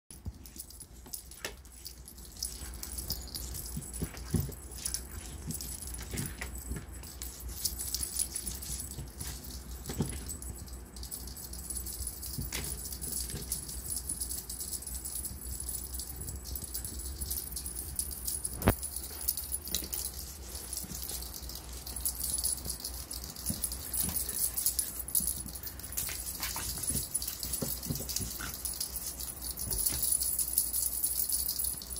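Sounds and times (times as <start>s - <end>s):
jingling: 0.1s - 31.9s
kittens scrabbling and rattling: 0.2s - 31.9s.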